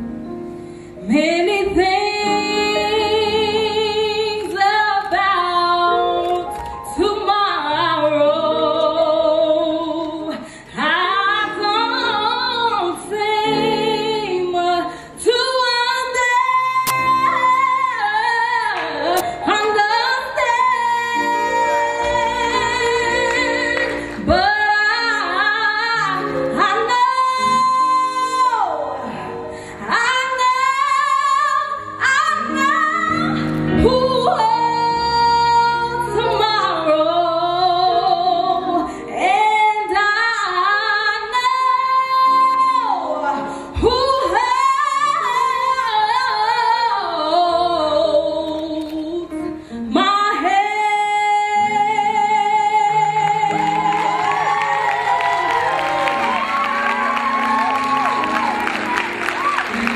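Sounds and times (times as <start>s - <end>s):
woman singing: 1.0s - 58.9s.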